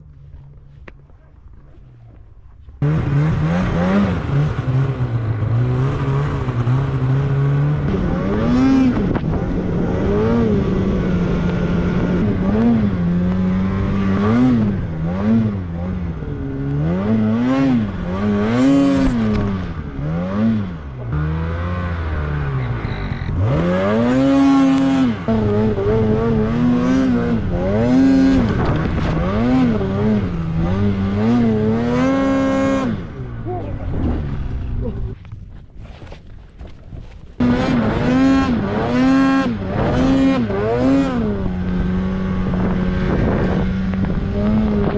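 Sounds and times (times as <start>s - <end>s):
snowmobile engine revving: 2.8s - 35.2s, 37.4s - 44.9s.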